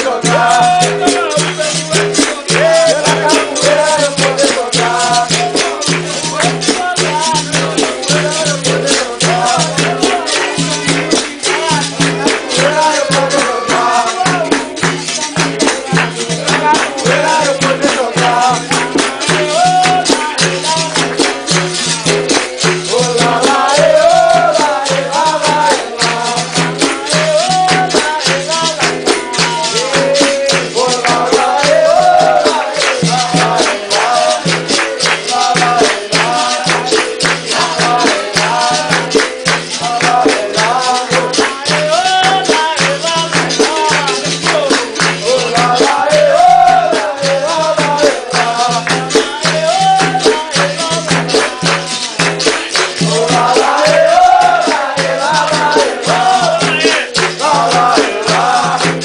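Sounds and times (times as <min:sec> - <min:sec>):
group of voices singing: 0:00.0 - 0:59.0
hand-clapping in fast rhythm: 0:00.0 - 0:59.0
shaker rattling: 0:00.0 - 0:59.0.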